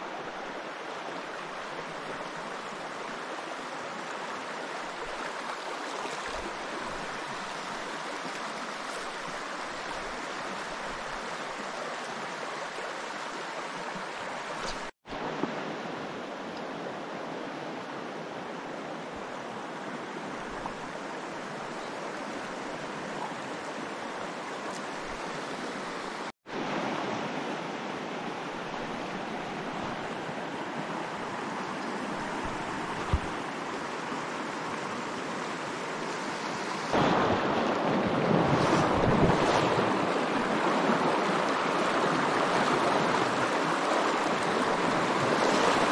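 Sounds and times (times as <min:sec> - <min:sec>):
river water rushing over rocks: 0:00.0 - 0:45.9.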